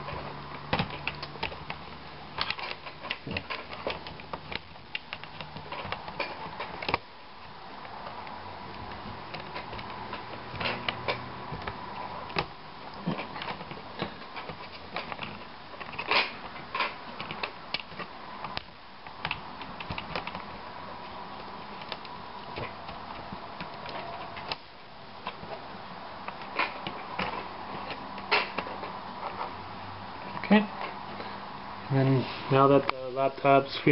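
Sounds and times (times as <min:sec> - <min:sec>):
plastic laptop parts clicking: 0:00.0 - 0:25.6, 0:26.2 - 0:29.5.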